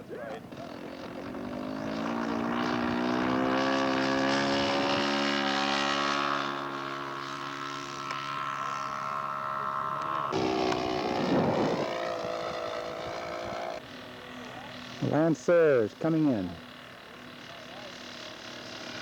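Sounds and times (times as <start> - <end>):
model airplane engine running: 0.0 - 19.0.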